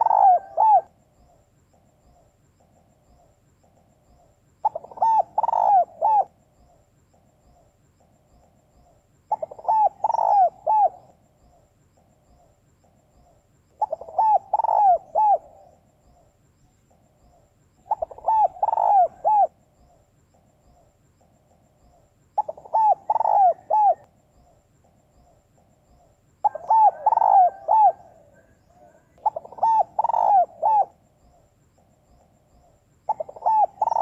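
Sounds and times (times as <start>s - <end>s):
dove cooing: 0.0s - 8.1s, 8.8s - 16.3s, 16.9s - 31.9s, 32.6s - 34.0s.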